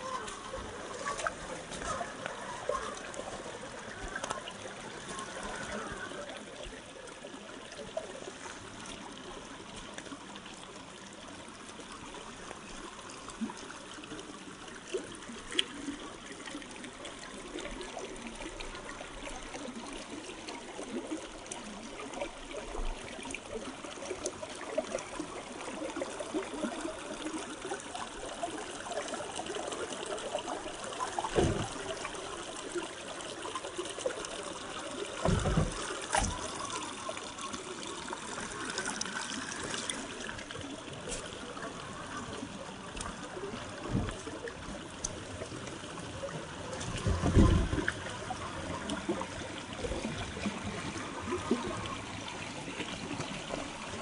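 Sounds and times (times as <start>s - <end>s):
river water trickling over rocks: 0.0s - 54.0s.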